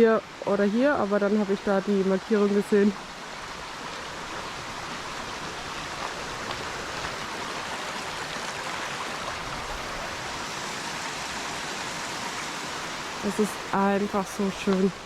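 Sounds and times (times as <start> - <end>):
stream rushing over waterfalls: 0.0 - 15.0.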